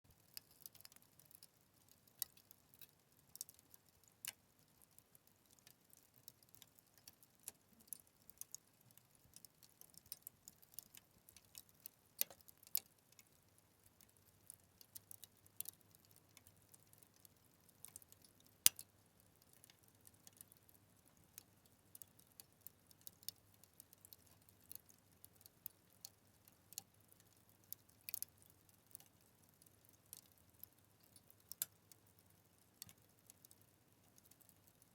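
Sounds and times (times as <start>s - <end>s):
fire crackling: 0.1s - 31.7s.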